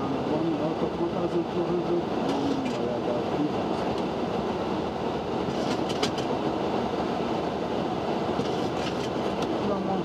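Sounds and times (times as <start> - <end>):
cockpit airflow and engine noise: 0.0 - 10.0.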